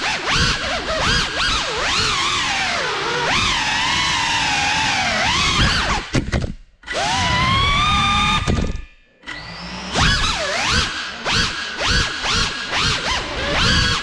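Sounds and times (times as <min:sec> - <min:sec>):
drone motors whining: 0:00.0 - 0:06.1, 0:06.8 - 0:14.0.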